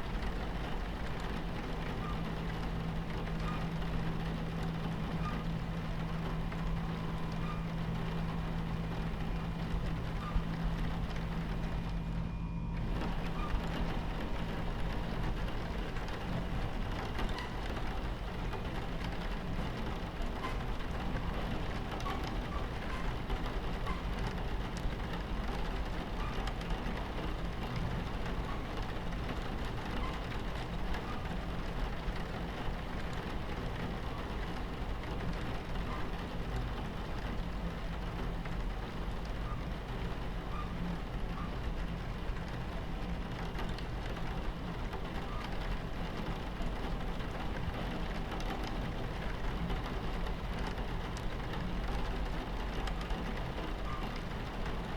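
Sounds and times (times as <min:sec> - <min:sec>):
rain against a window: 0:00.0 - 0:54.9
train rumbling on tracks: 0:00.0 - 0:54.9.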